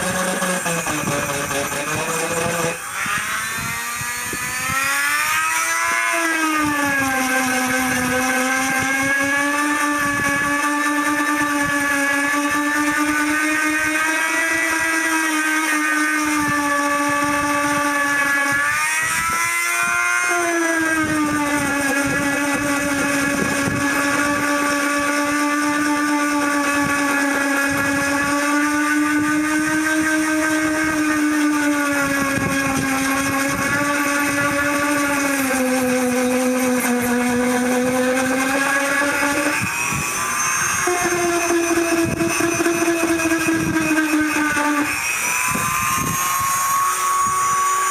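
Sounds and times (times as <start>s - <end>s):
rotary tool motor whine: 0.0s - 47.9s.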